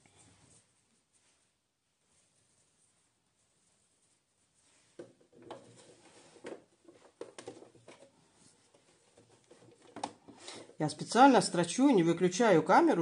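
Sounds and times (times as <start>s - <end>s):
fabric rustling: 0.0s - 10.9s.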